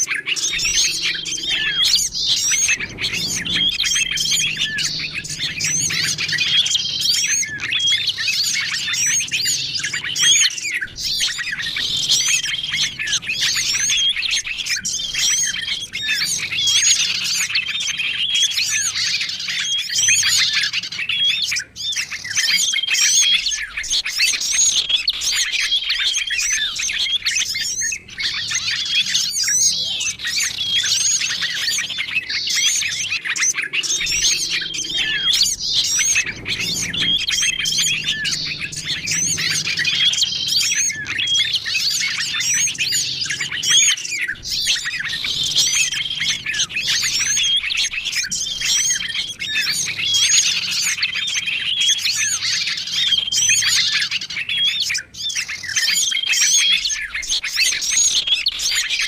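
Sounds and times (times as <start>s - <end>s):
small birds chirping chorus: 0.0s - 59.0s.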